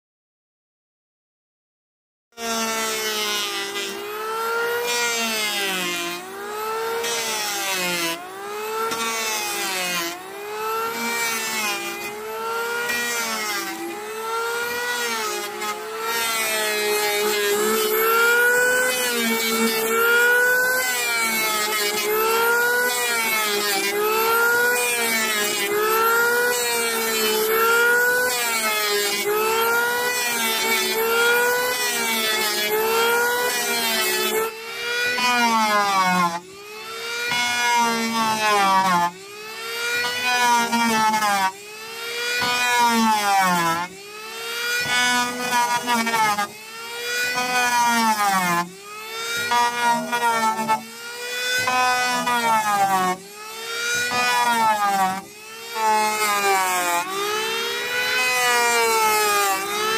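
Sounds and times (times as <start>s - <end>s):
power tool cutting wood: 2.4s - 59.9s.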